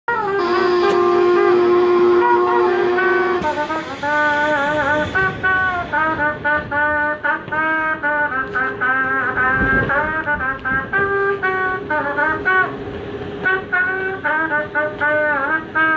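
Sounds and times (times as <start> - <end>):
solo trumpet melody: 0.1 - 15.9.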